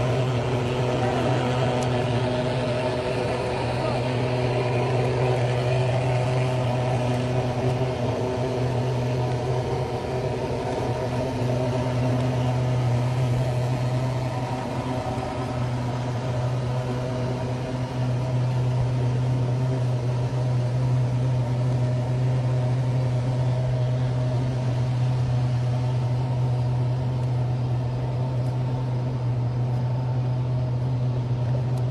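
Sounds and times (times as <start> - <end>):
low machine hum: 0.0 - 31.9.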